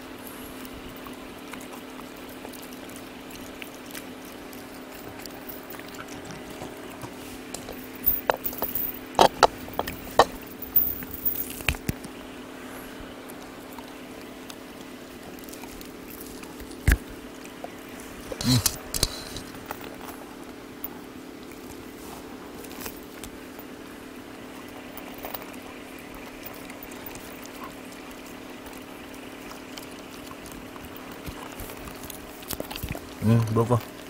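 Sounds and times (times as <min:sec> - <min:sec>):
low hum: 0:00.0 - 0:33.5
dogs chewing wetly: 0:00.0 - 0:34.0.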